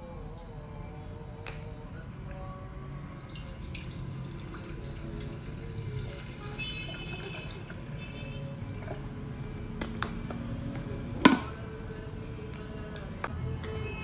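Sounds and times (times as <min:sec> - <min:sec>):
faint music: 0:00.0 - 0:14.0.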